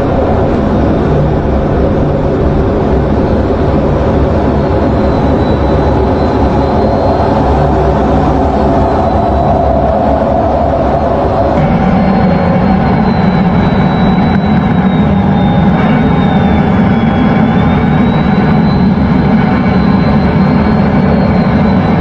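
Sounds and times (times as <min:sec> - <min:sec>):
jet engine running: 0:00.0 - 0:22.0
thin high engine whine: 0:00.0 - 0:22.0.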